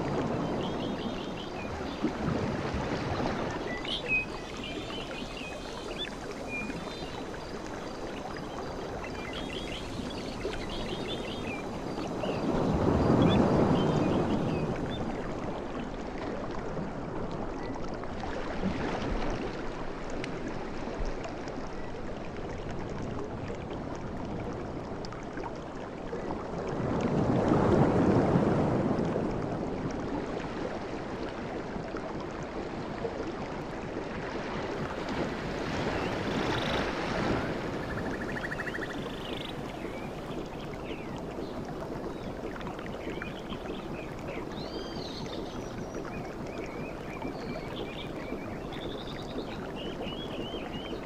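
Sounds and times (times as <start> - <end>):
sea waves washing onto beach: 0.0 - 21.5, 26.4 - 51.0.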